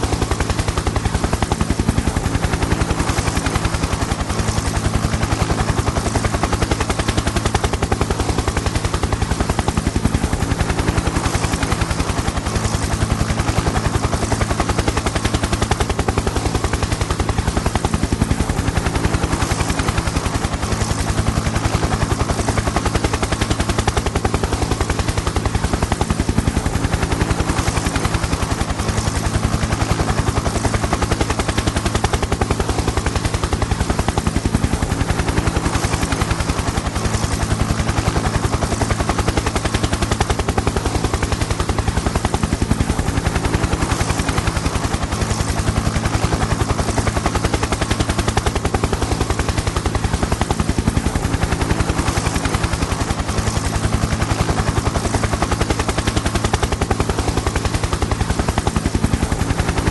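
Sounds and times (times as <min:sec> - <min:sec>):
helicopter rotor chop: 0:00.0 - 0:59.9
turbine drone: 0:00.0 - 0:59.9.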